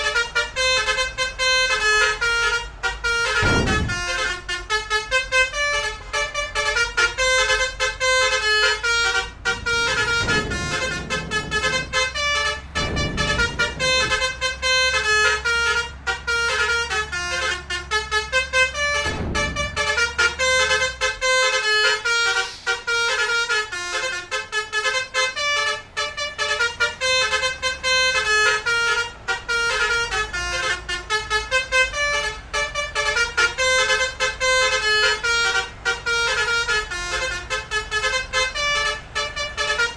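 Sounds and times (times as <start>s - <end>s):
low engine rumble: 0.0s - 39.9s
multi-trumpet horn tune: 0.0s - 39.9s.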